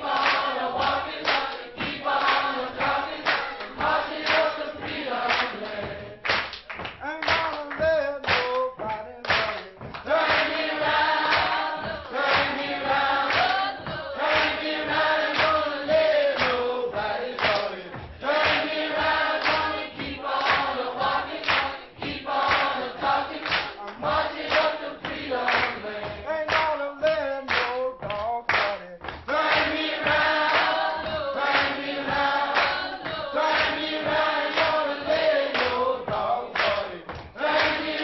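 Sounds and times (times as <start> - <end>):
choir singing to a beat: 0.0 - 7.0, 7.7 - 38.0.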